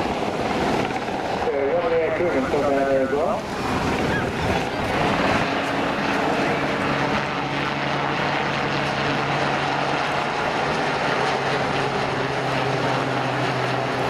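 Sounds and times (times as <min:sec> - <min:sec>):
helicopter flying past: 0:00.0 - 0:14.0.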